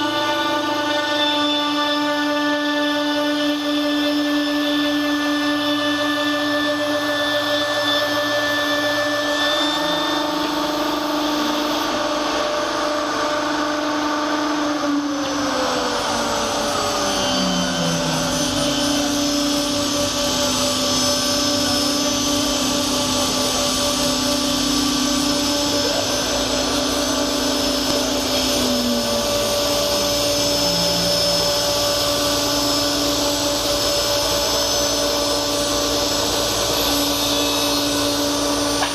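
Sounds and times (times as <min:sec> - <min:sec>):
machine motors whining: 0:00.0 - 0:38.9.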